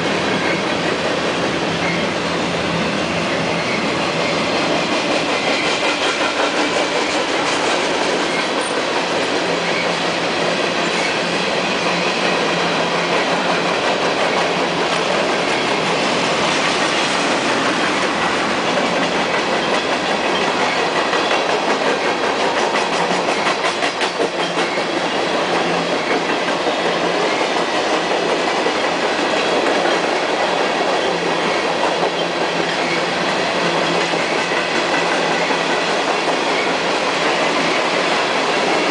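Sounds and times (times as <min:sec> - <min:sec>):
train wheels rumbling on rail: 0:00.0 - 0:38.9
wheels clacking over rail joints: 0:03.6 - 0:38.9.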